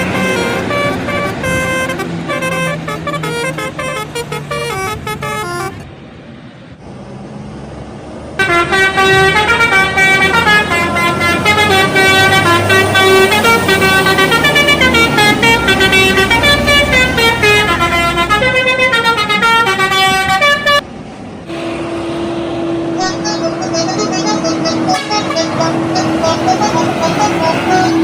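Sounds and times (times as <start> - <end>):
bus horn playing a tune: 0.0 - 5.8, 8.4 - 20.8, 21.5 - 28.0.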